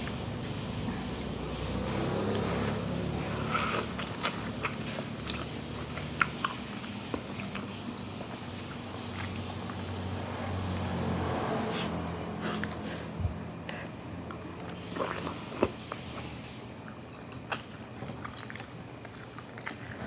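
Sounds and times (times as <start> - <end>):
person chewing food: 0.0 - 11.4, 12.3 - 20.0.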